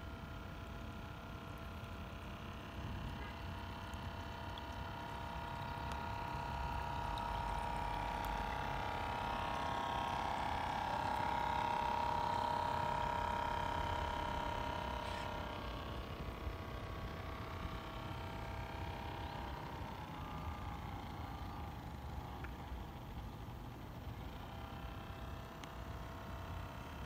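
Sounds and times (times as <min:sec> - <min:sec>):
model boat motor whining: 0:00.0 - 0:27.0.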